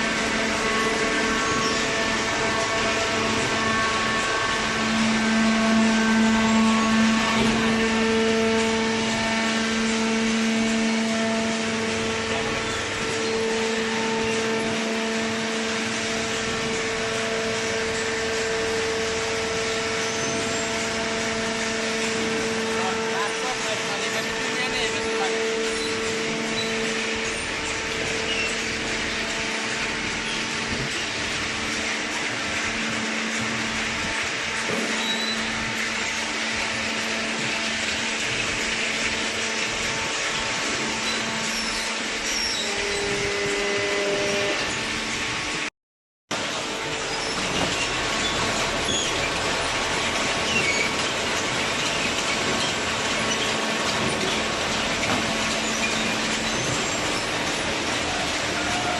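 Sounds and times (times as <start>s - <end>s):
hydraulic machine humming: 0.0s - 45.7s, 46.3s - 58.9s.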